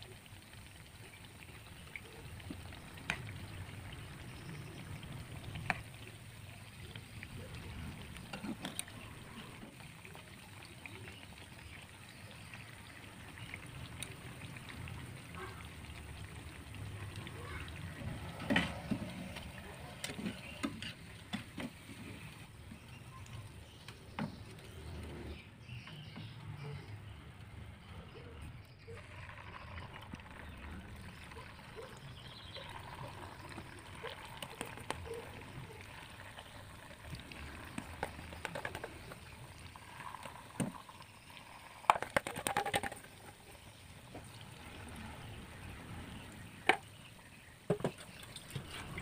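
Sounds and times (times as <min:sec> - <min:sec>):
oil bubbling and sizzling: 0:00.0 - 0:49.0.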